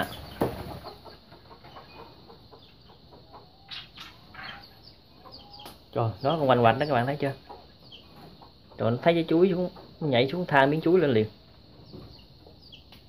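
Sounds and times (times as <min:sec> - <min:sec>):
chickens clucking softly: 0:00.0 - 0:13.0
small birds chirping: 0:00.0 - 0:13.0.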